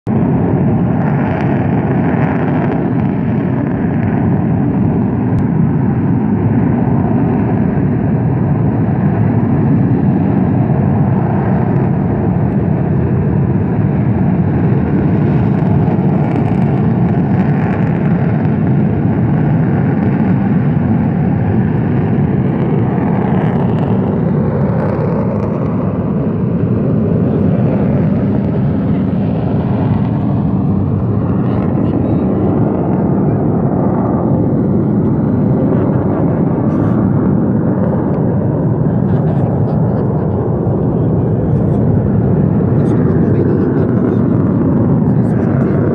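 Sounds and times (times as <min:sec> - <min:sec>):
volcanic gas venting roar: 0:00.1 - 0:45.9.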